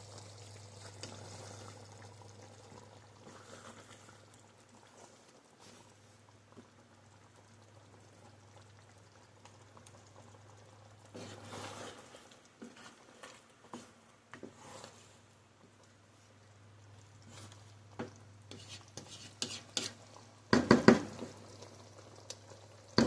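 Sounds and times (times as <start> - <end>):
soft liquid bubbling: 0.0 - 23.0.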